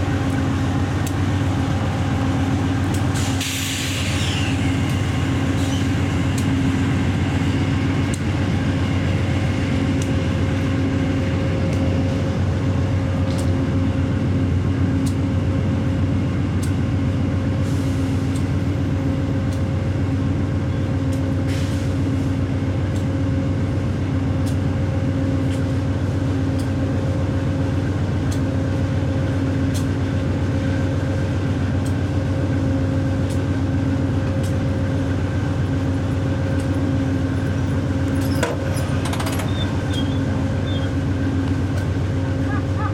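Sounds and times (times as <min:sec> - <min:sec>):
diesel locomotive hum: 0:00.0 - 0:42.9.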